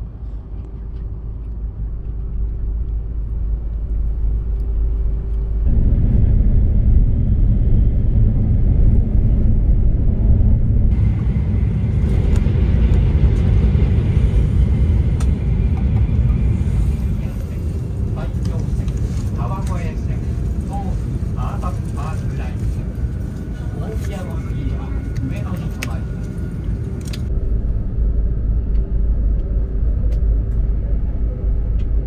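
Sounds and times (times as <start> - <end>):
train cabin rumble: 0.0 - 32.0.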